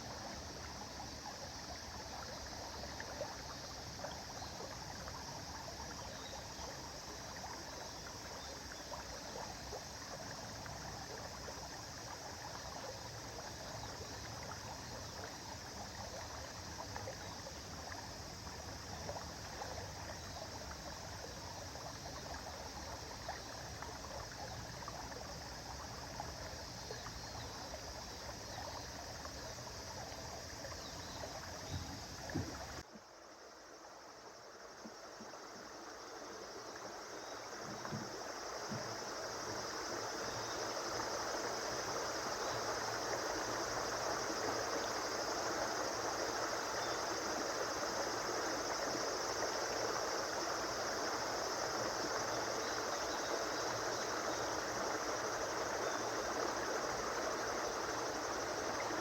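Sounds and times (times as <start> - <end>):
river water flowing: 0.0 - 59.0
water splashes and trickles: 0.0 - 59.0.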